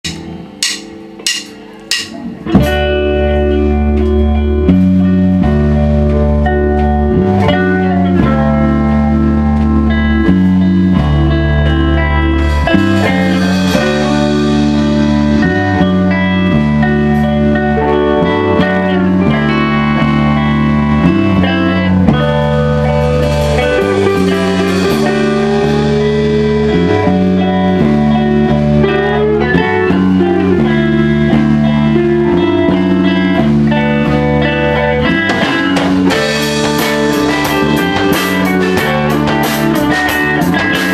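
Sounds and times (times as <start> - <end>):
drums and cymbals: 0.0 - 3.5, 8.2 - 29.0, 29.6 - 40.9
electric guitar: 0.0 - 40.9
repeating bass riff: 0.0 - 40.9.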